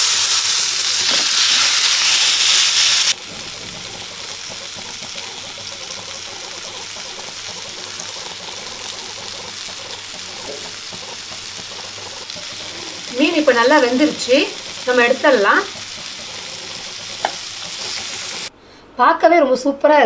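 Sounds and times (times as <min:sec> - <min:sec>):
fish sizzling in oil: 0:00.0 - 0:18.5.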